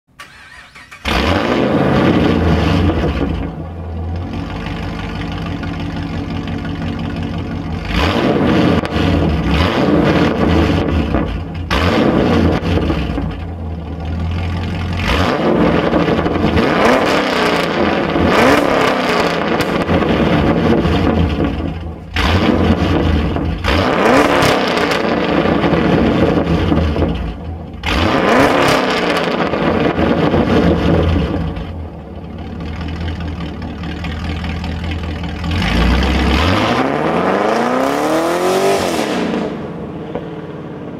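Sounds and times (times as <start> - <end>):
car engine starting and revving: 0.1 - 40.9.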